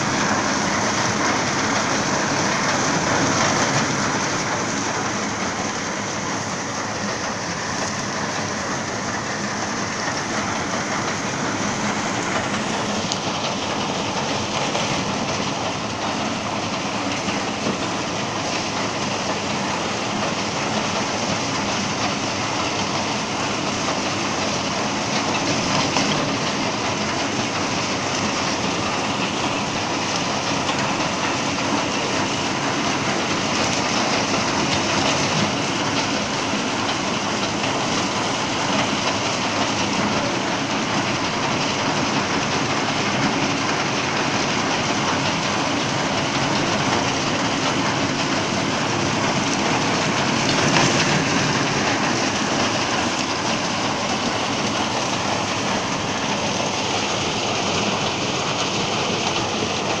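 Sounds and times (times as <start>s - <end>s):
tractor and reaper clattering: 0.0s - 60.0s.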